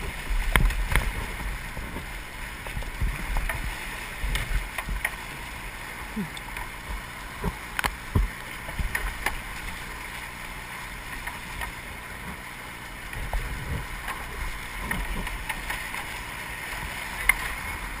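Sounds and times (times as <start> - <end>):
water splashing around a kayak: 0.0 - 18.0.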